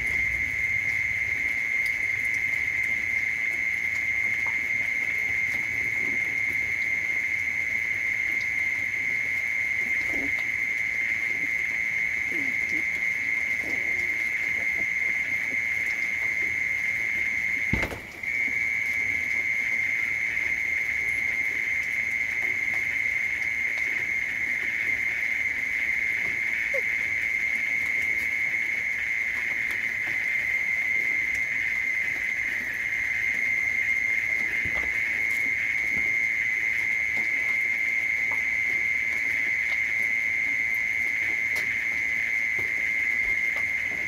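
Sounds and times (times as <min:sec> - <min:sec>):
high-pitched continuous hum: 0:00.0 - 0:44.0.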